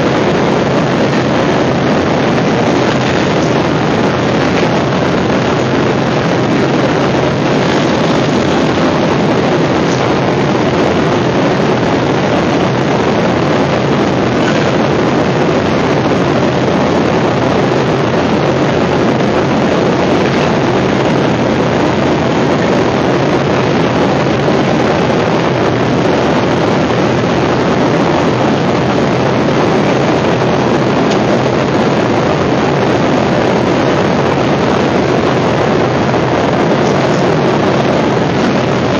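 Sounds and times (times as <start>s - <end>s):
jet engine and airflow rush: 0.0s - 38.9s
low cabin hum: 0.0s - 38.9s.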